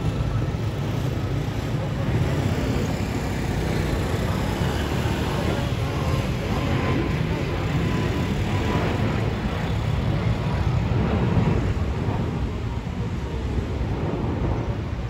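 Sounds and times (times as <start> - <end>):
jet airliner flying overhead: 0.0 - 15.0.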